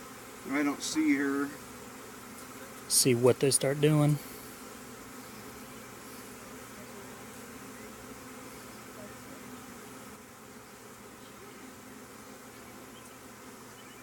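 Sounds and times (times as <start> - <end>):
bee swarm buzzing: 0.0 - 14.0.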